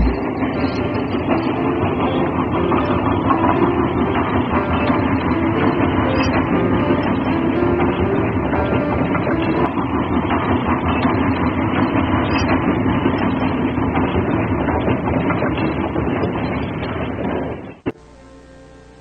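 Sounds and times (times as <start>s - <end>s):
train rumbling on rails: 0.0s - 17.9s.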